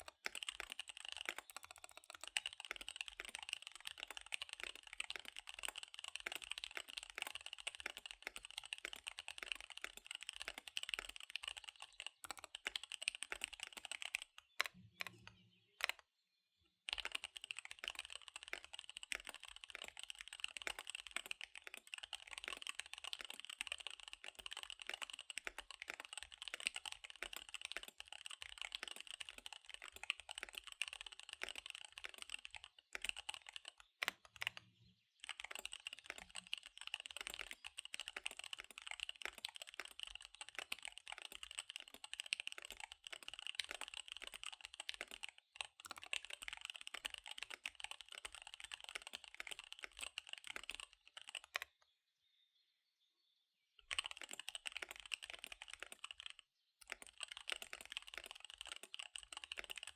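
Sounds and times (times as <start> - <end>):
fast typing on mechanical keyboard: 0.0 - 16.0, 16.9 - 51.8, 53.8 - 59.9.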